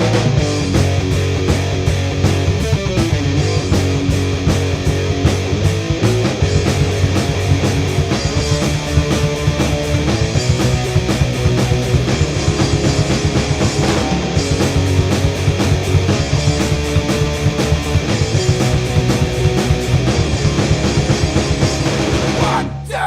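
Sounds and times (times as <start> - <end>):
instrumental rock music: 0.0 - 23.0.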